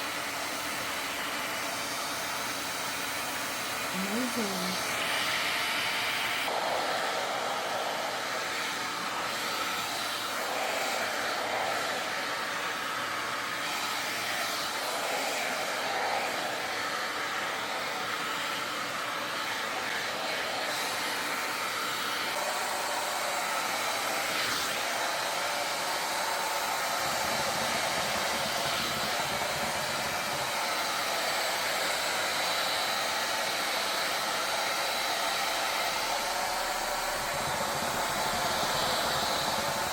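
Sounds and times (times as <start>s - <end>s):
hot air brush blowing: 0.0s - 39.9s.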